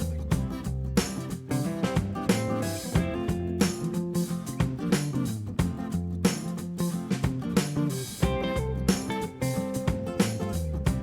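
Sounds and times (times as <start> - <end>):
upbeat rock music: 0.0 - 11.0.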